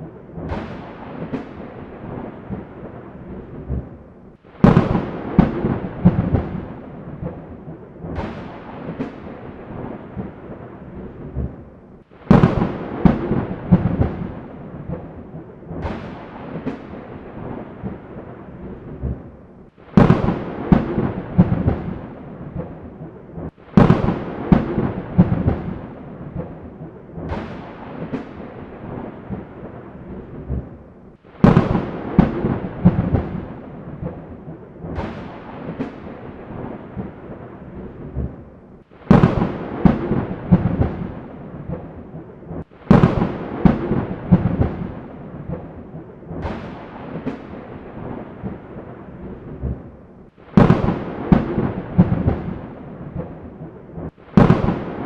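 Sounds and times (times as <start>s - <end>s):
thunder cracking and rumbling: 0.0s - 55.0s.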